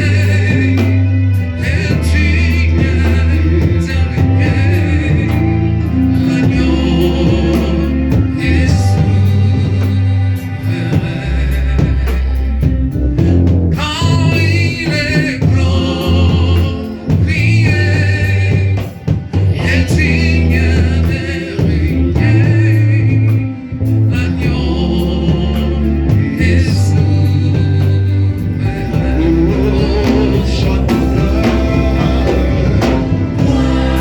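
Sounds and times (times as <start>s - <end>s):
band backing with bass: 0.0s - 34.0s
gospel singing with vibrato: 0.0s - 34.0s.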